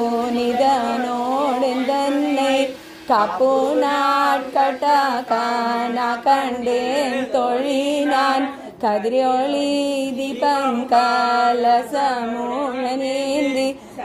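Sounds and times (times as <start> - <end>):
voices singing a devotional chant: 0.0 - 14.0.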